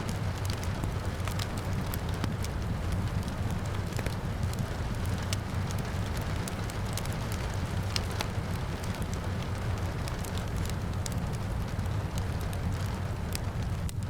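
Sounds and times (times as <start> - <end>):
rain falling: 0.0 - 14.0
wood fire crackling: 0.0 - 14.0.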